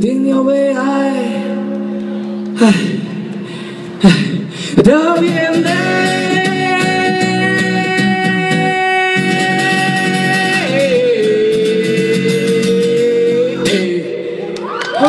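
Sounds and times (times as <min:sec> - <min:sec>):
guitar accompaniment: 0:00.0 - 0:15.0.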